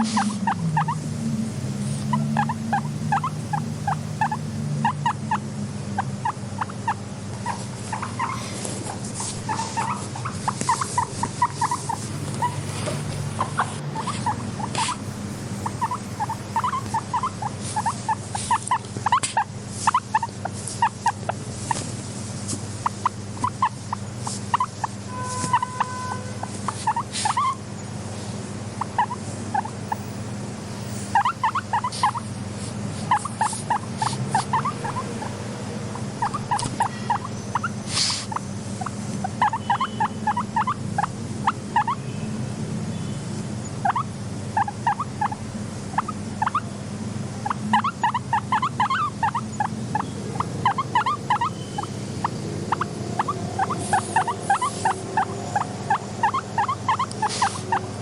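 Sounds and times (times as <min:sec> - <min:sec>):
guinea pigs squeaking: 0:00.0 - 0:01.1, 0:01.8 - 0:27.9, 0:28.7 - 0:42.3, 0:42.9 - 0:58.0
steady low hum: 0:00.0 - 0:58.0.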